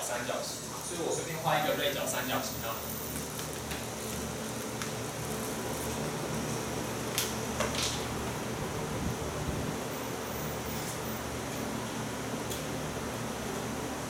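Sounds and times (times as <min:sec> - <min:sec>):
room noise hum and hiss: 0:00.0 - 0:14.0.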